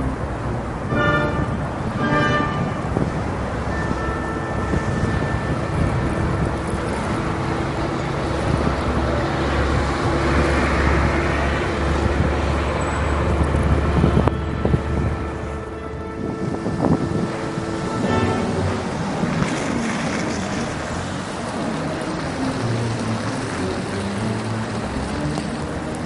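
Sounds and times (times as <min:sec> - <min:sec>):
bus engine drone: 0:00.0 - 0:26.0
cars driving past: 0:00.0 - 0:26.0.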